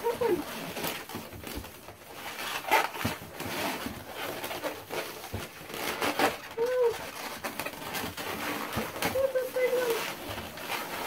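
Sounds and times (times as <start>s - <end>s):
latex balloons squeaking: 0.0s - 11.0s.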